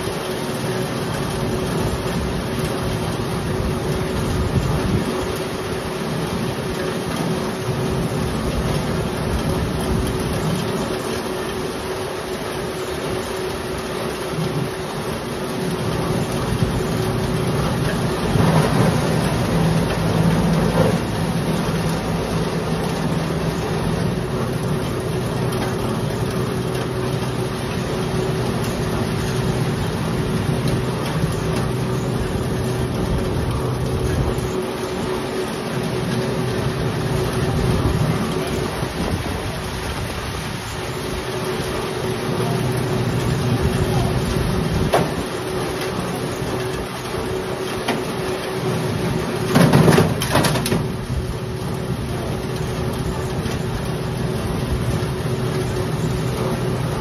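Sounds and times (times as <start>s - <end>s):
threshing machine humming: 0.0s - 57.0s.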